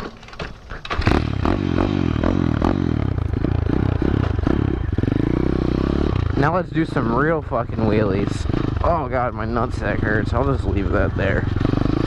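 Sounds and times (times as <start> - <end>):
motorbike engine revving: 0.8 - 12.0.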